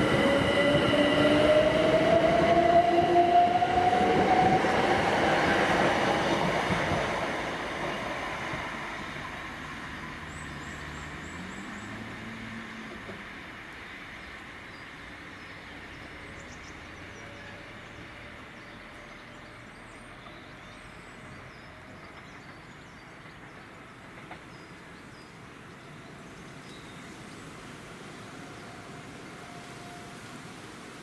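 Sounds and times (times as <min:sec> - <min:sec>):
electric train rail rumble: 0:00.0 - 0:31.0.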